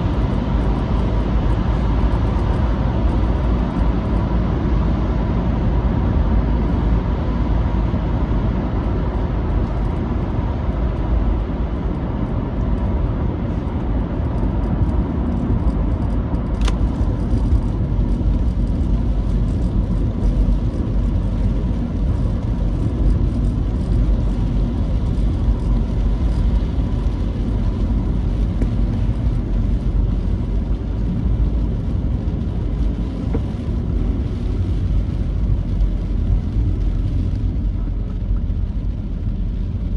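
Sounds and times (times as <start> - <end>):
vehicle driving on wet road: 0.0 - 39.9.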